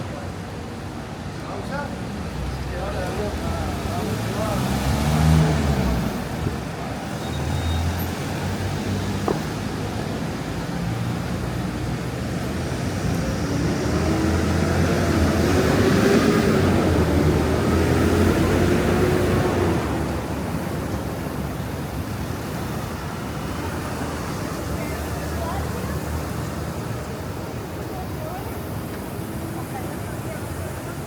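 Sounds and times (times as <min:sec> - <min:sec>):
low rumble of traffic: 0:00.0 - 0:31.0.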